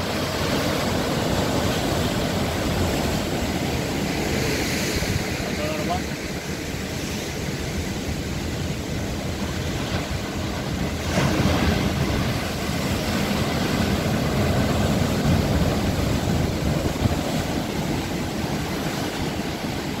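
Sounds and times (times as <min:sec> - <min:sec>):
heavy surf breaking on rocks: 0:00.0 - 0:20.0.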